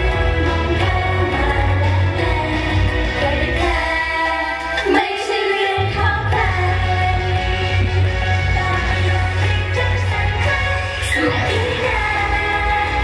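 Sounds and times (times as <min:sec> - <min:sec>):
pop backing track: 0:00.0 - 0:13.0
women singing into microphones: 0:00.0 - 0:13.0.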